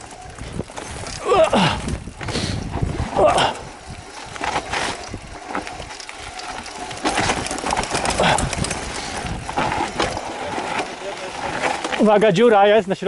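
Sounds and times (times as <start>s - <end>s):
bike rattling and knocking: 0.0s - 13.0s
tyres over dirt trail: 0.0s - 13.0s.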